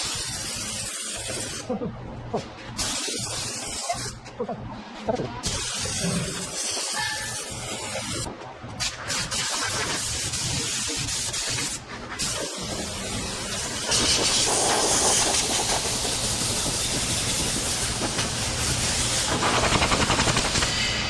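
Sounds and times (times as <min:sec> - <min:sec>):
loud rushing hiss: 0:00.0 - 0:01.7, 0:02.8 - 0:04.2, 0:05.4 - 0:08.3, 0:09.1 - 0:21.0.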